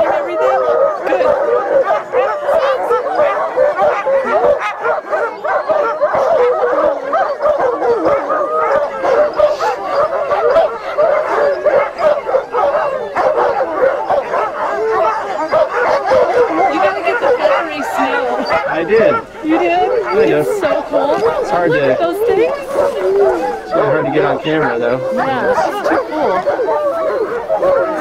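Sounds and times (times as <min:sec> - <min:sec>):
sled dogs barking and howling: 0:00.0 - 0:28.0.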